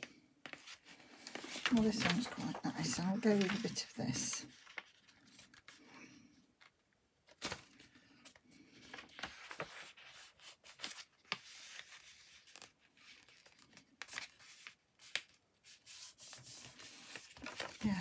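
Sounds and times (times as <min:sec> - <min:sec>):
paper rustling: 0:00.4 - 0:05.9, 0:06.6 - 0:18.0.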